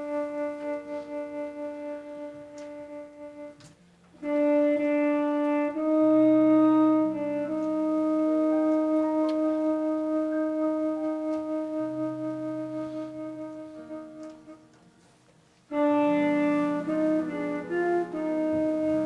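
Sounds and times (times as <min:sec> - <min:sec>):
slow brass-like instrumental music: 0:00.0 - 0:19.0.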